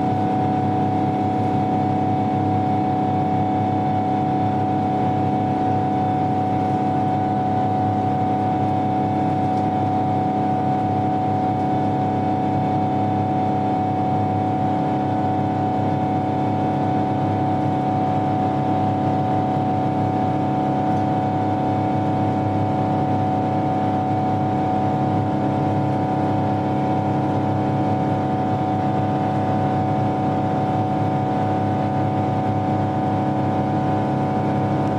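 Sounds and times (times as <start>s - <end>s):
jet engine cabin drone: 0.0s - 34.9s.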